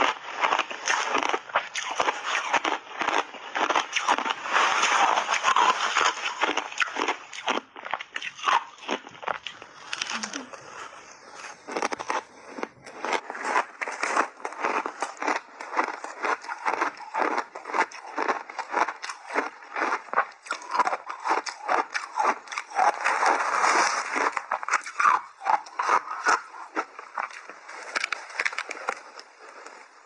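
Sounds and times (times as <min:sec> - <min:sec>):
spoon crunching shaved ice: 0:00.0 - 0:30.0.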